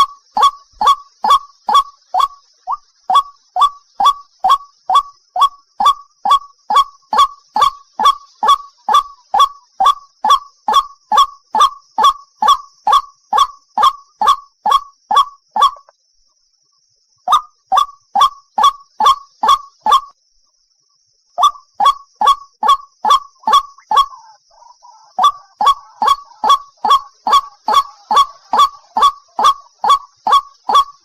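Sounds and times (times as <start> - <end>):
waterhen calling: 0.0 - 15.9, 17.3 - 20.1, 21.4 - 31.0.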